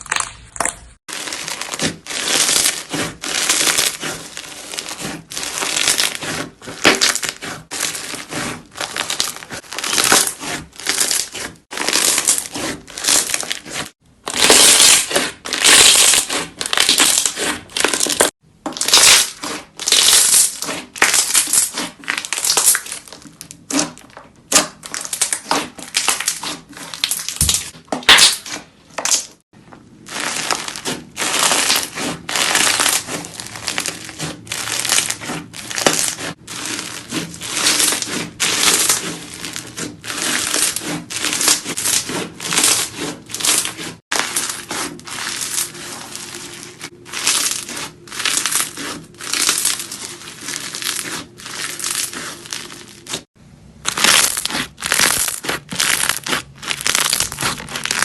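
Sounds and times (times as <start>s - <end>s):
crunchy material being crushed: 0.0s - 29.4s, 30.0s - 58.0s.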